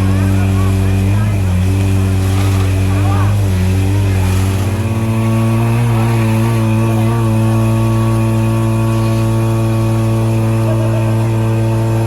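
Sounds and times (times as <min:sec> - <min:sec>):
fire engine motor droning: 0:00.0 - 0:12.0.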